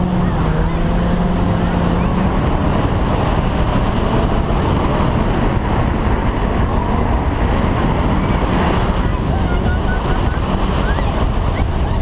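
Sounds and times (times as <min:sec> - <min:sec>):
car engine tyre and wind rush: 0:00.0 - 0:12.0.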